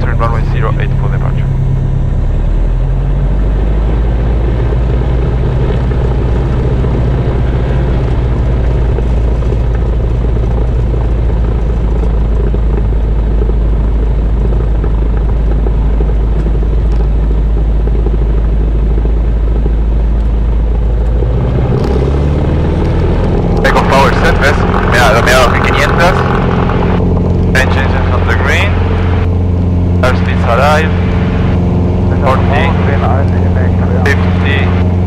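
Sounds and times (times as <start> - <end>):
propeller plane engine drone: 0.0 - 35.0.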